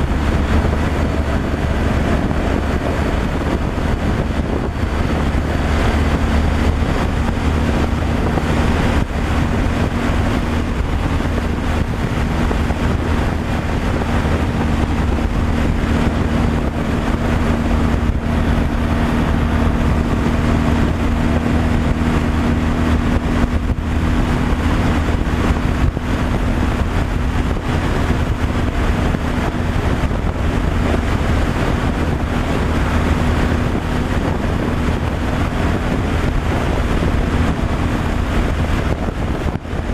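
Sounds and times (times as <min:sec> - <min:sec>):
road and wind noise: 0:00.0 - 0:39.9
truck engine humming: 0:00.0 - 0:39.9.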